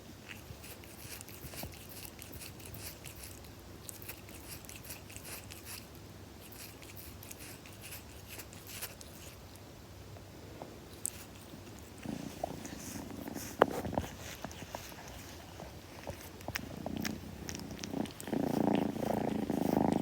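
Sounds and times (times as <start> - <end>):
kitten licking fur: 0.2 - 9.7, 10.9 - 20.0.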